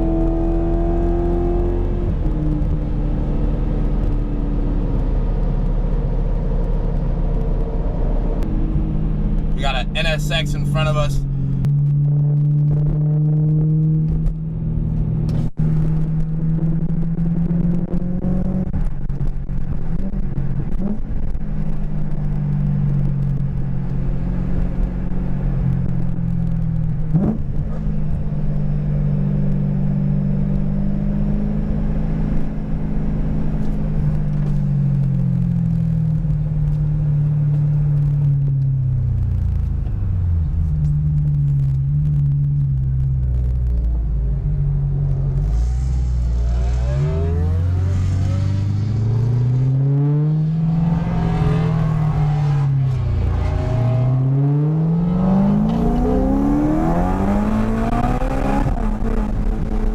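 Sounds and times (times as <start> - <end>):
car engine and tyre drone: 0.0 - 59.9.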